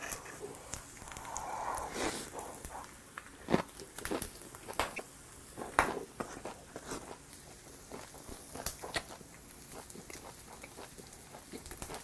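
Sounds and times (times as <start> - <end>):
crunchy chewing and mouth smacks: 0.0 - 5.0, 5.6 - 12.0.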